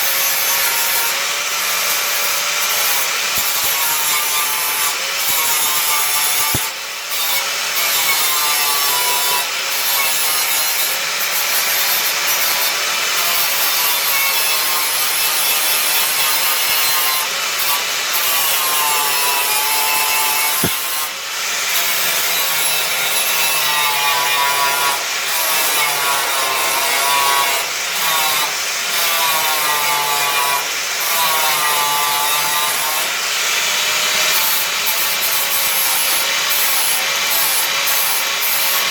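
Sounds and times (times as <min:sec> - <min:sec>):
angle grinder on metal: 0:00.0 - 0:38.9.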